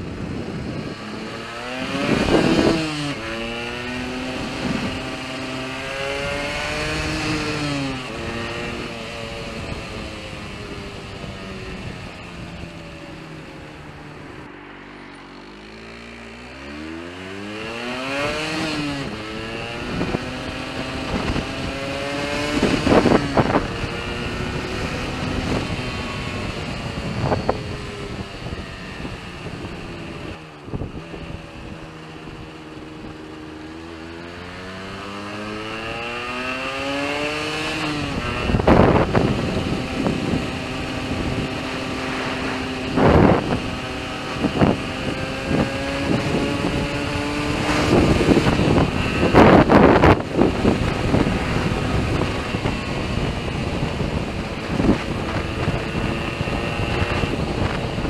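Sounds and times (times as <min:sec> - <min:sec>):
two-stroke engine revving and misfiring: 0:00.2 - 0:11.8, 0:15.4 - 0:58.0.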